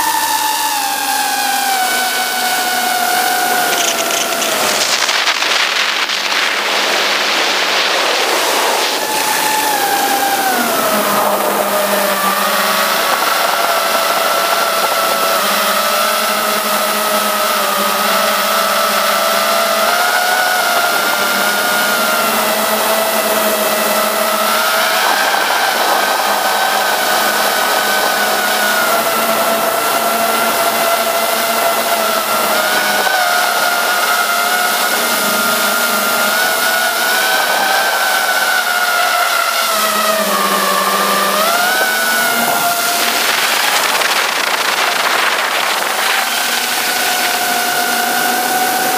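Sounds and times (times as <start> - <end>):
drone motors whining: 0.0 - 48.9
prop wash rushing: 0.0 - 48.9.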